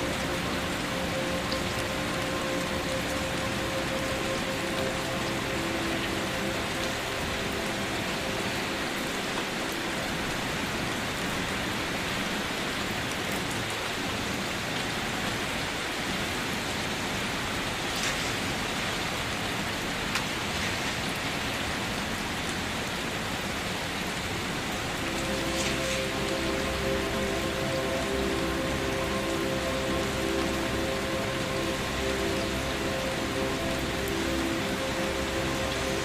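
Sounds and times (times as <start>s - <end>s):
rain hissing on a surface: 0.0s - 36.0s.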